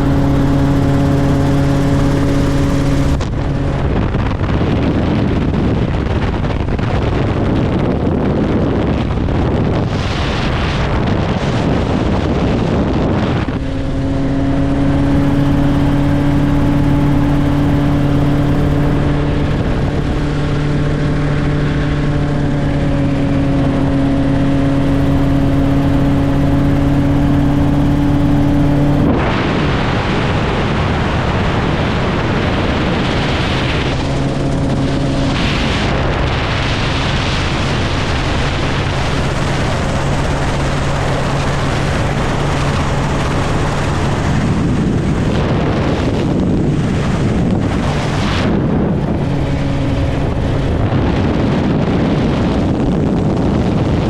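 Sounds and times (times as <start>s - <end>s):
helicopter engine and rotor hum: 0.0s - 10.1s, 11.0s - 54.0s.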